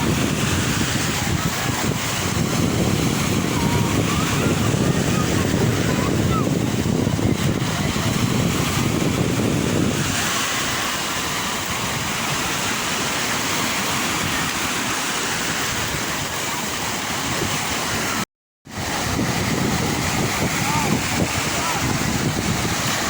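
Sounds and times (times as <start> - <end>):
sea waves on shore: 0.0 - 23.0.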